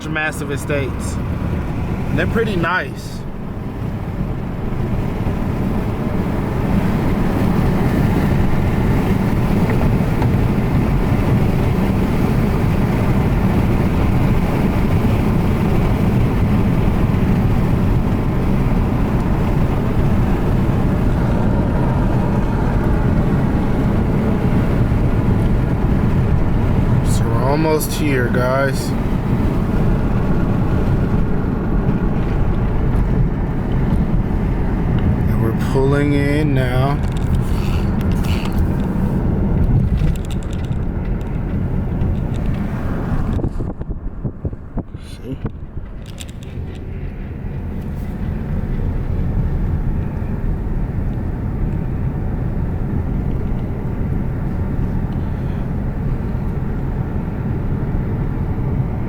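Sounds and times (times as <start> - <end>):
car driving heard from inside: 0.0 - 59.0.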